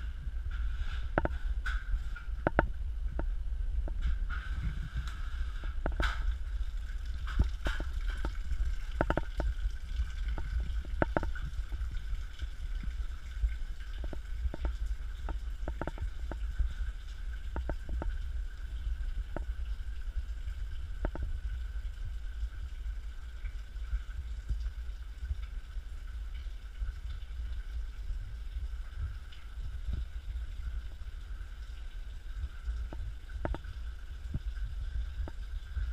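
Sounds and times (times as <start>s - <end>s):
low wind rumble on microphone: 0.0s - 35.9s.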